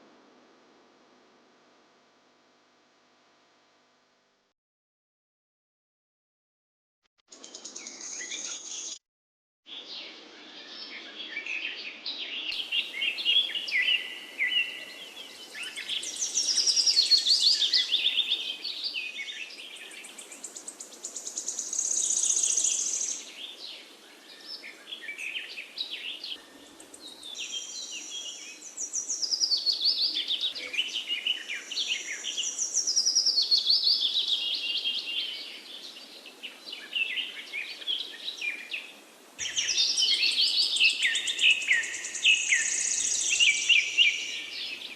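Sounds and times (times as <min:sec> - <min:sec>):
songbirds singing: 0:07.3 - 0:09.0, 0:09.7 - 0:44.9.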